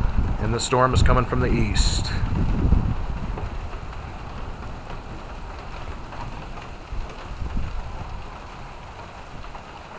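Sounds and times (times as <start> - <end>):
gusty wind rumbling: 0.0 - 9.9
rain falling: 0.0 - 9.9.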